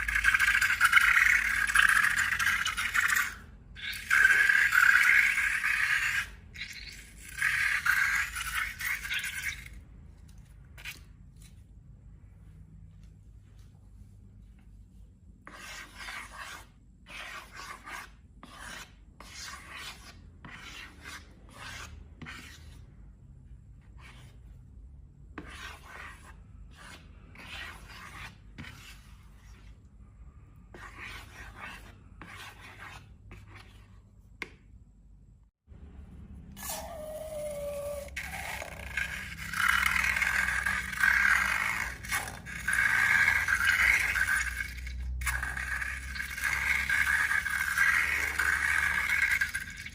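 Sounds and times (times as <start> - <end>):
rubbing and scraping strokes: 0.0 - 9.8, 14.0 - 23.1, 25.4 - 34.1, 36.6 - 49.9.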